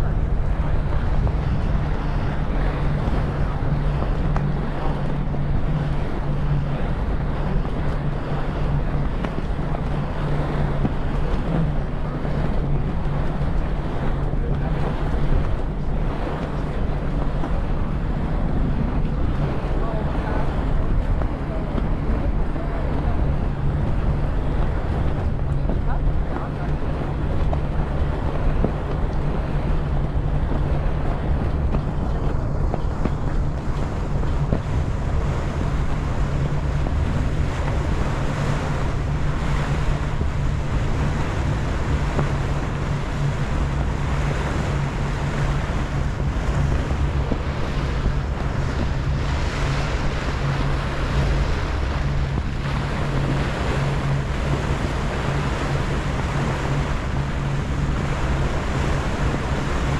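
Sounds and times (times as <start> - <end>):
boat engine droning: 0.0 - 59.9
water rushing along hull: 0.0 - 59.9
wind buffeting microphone: 0.0 - 59.9.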